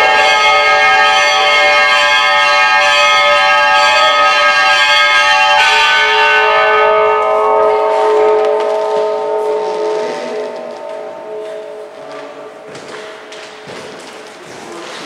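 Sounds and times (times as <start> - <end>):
church bells ringing: 0.0 - 14.6.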